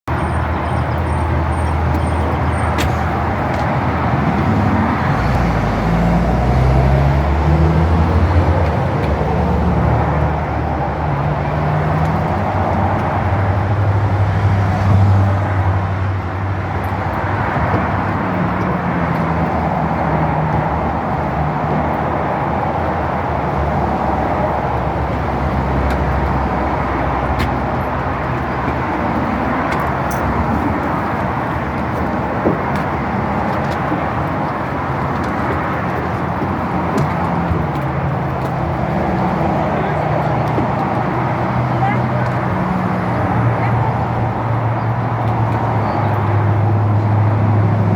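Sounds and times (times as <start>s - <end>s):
engine running: 0.1s - 47.9s.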